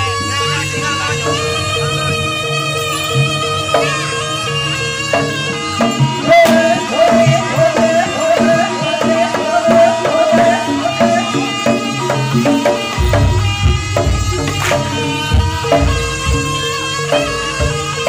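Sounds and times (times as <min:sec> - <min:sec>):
hand drums: 0:00.0 - 0:18.0
wavering held melody: 0:00.0 - 0:18.0.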